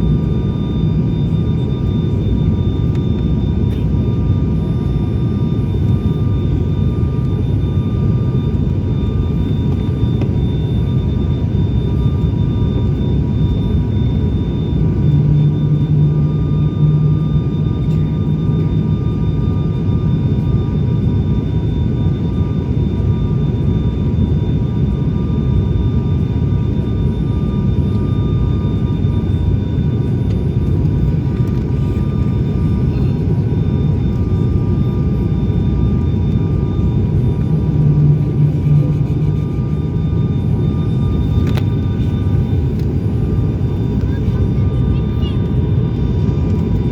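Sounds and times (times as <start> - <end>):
propeller whining tones: 0.0 - 46.9
turboprop engines rumbling: 0.0 - 46.9.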